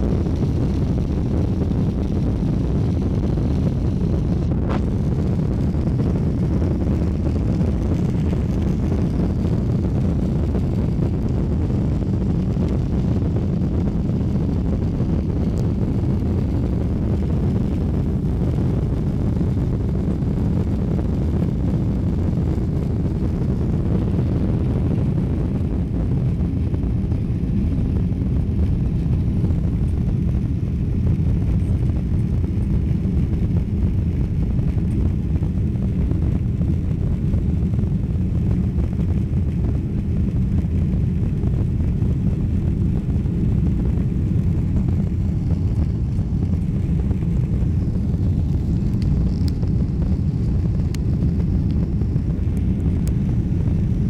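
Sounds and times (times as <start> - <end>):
air rushing in cabin: 0.0 - 54.0
jet engines rumbling: 0.0 - 54.0.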